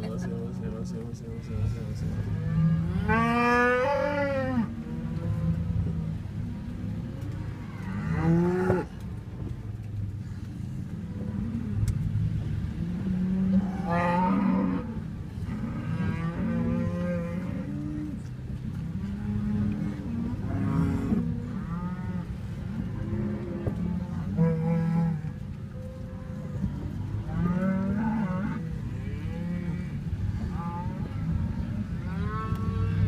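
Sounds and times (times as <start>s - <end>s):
cattle herd mooing: 1.5s - 9.0s, 11.0s - 33.0s.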